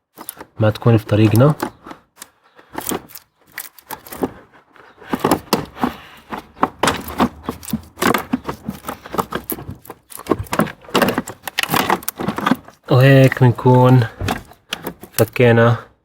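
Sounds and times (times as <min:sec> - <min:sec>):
plastic parts clicking and scraping: 0:00.0 - 0:15.8.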